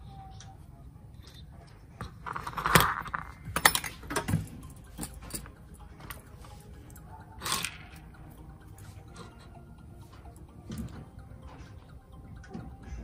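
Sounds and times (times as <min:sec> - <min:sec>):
clicks and knocks of tools: 0:01.2 - 0:13.0.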